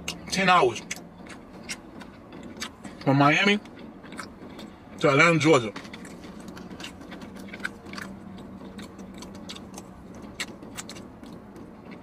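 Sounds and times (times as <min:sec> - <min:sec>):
person chewing crispy food: 0:00.0 - 0:12.0.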